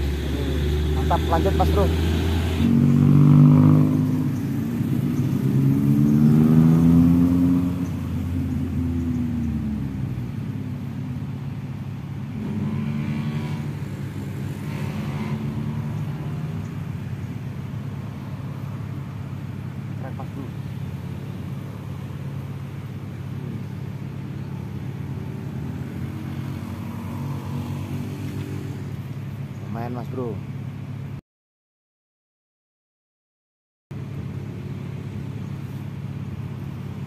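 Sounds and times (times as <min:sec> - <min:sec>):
vehicles passing on road: 0:00.0 - 0:31.2, 0:33.9 - 0:37.0.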